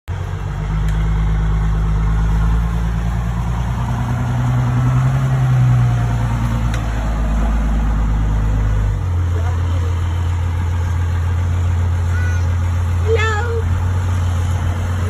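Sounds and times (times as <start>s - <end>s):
diesel truck engine revving: 0.1s - 15.0s.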